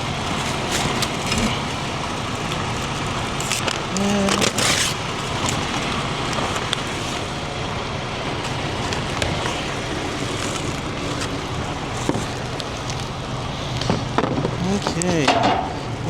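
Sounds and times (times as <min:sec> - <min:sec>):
vehicle engine and road traffic: 0:00.0 - 0:16.0.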